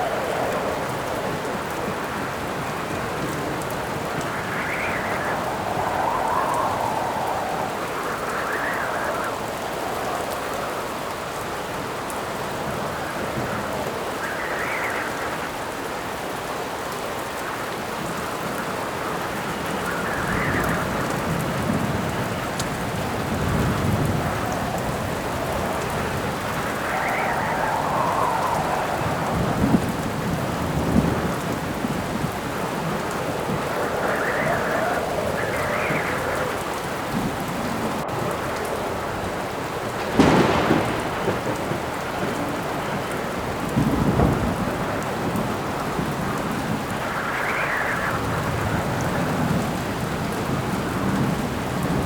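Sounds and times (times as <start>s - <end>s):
heavy rain: 0.0s - 52.0s
thunder rumbling: 0.0s - 52.0s
wind howling in gusts: 0.0s - 52.0s.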